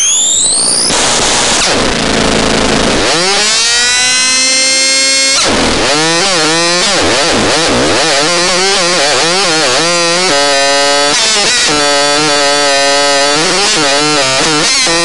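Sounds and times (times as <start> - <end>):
synthesized chainsaw buzzing: 0.0 - 15.0.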